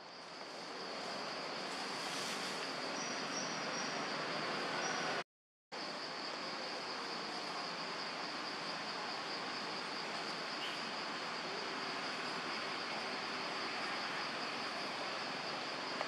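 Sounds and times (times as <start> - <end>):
background hiss: 0.0 - 5.2, 5.8 - 16.0
forest insects droning: 0.0 - 5.2, 5.8 - 16.0.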